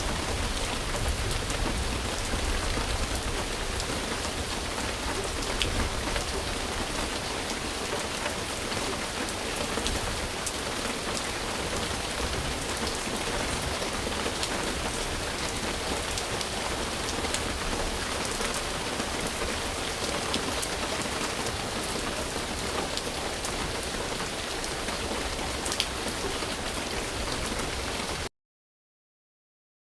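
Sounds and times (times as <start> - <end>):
rain falling on a surface: 0.0 - 28.3.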